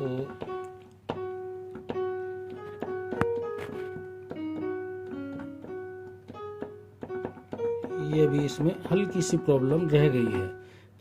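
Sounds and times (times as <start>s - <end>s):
piano notes repeated: 0.0s - 11.0s.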